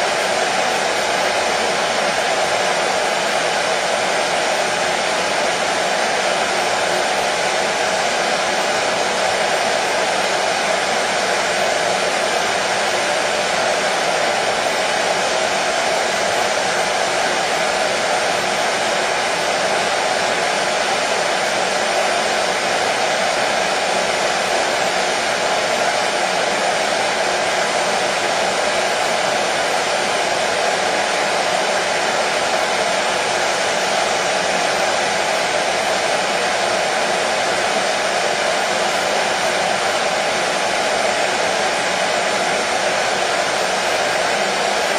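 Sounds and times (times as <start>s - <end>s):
hair dryer running: 0.0s - 44.9s.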